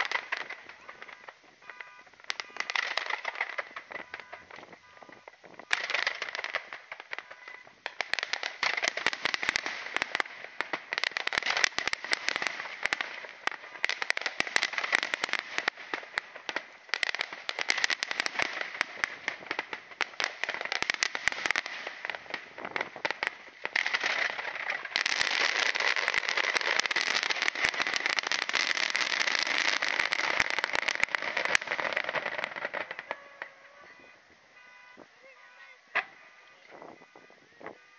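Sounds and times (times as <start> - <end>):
fireworks crackling: 0.0 - 37.9.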